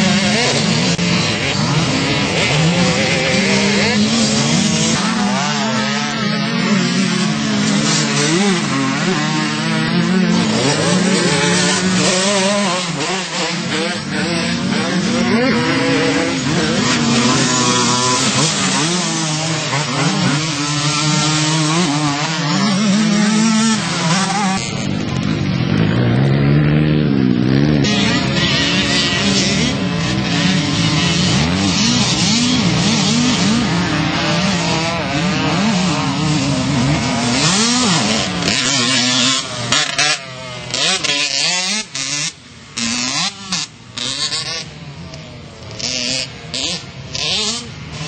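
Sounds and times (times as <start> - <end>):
quad engines revving: 0.0 - 48.0.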